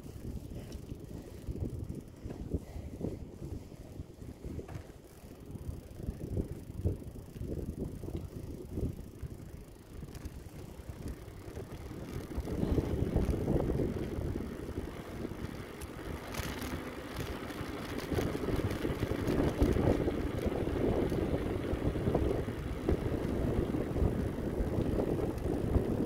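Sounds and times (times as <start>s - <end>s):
bike rolling noise: 0.0s - 26.0s
wind buffeting microphone: 0.0s - 26.0s.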